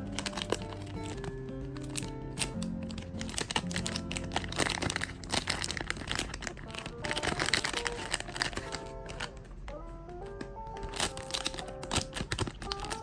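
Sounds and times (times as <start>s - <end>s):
background music: 0.0s - 13.0s
plastic crinkling: 0.0s - 13.0s.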